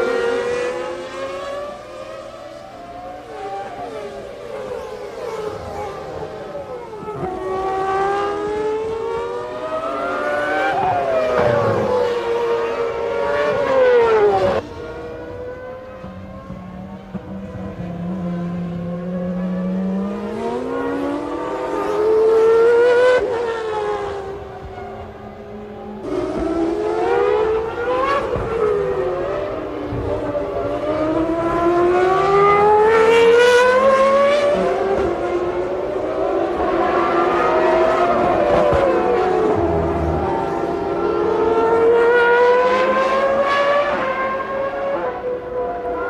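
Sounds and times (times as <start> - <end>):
racing car engines at high revs: 0.0 - 46.0.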